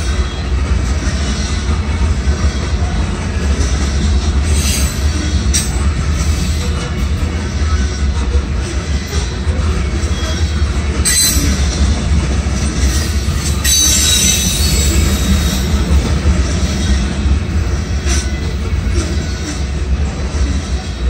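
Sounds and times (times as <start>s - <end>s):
train wheels squealing: 0.0s - 12.0s, 12.6s - 21.0s
freight train rumbling past: 0.0s - 21.0s.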